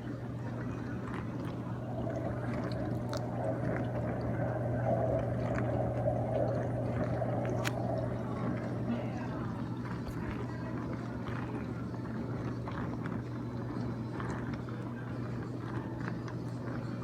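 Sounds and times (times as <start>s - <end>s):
water swishing: 0.0s - 16.8s
dishwasher motor hum: 0.0s - 17.0s.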